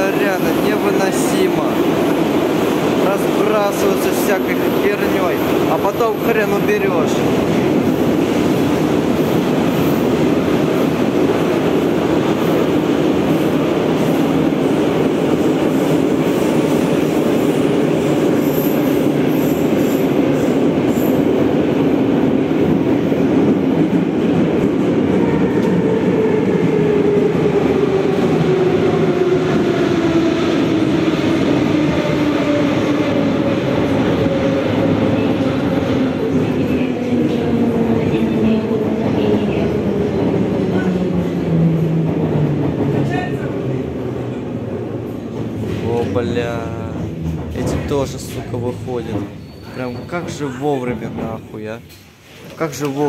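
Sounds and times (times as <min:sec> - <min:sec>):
train wheels and motors rumbling: 0:00.0 - 0:53.0.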